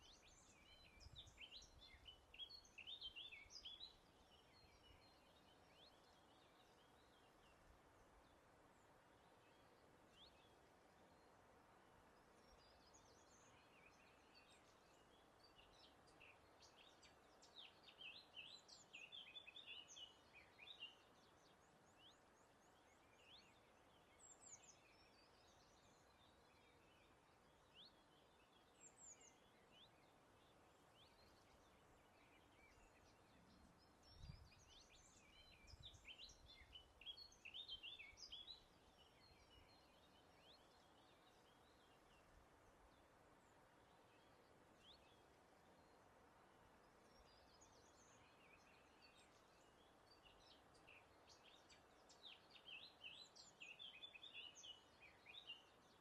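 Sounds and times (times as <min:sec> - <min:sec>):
soft hiss of breeze: 0:00.0 - 0:56.0
songbirds chirping and twittering: 0:00.0 - 0:56.0.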